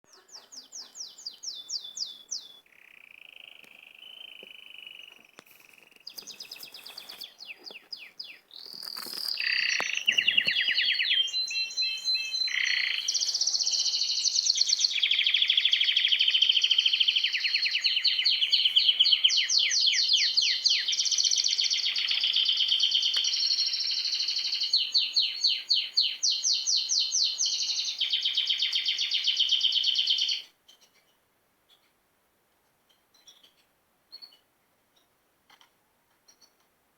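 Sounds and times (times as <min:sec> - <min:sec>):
songbirds chirping and trilling: 0:00.1 - 0:32.0.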